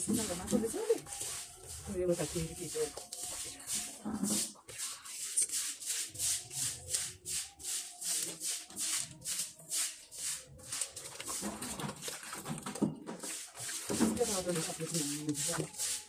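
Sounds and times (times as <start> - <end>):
hand scrubbing strokes: 0.0 - 16.0.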